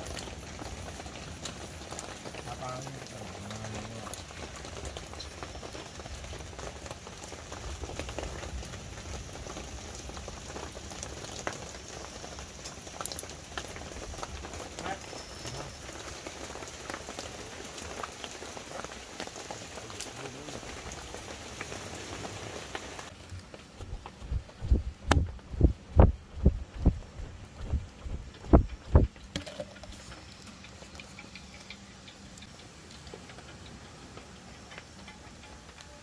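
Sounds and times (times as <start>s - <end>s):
rain falling steadily: 0.0s - 36.0s.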